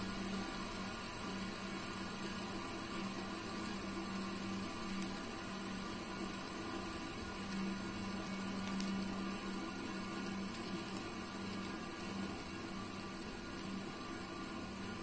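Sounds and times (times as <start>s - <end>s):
fidget spinners whirring: 0.0s - 15.0s.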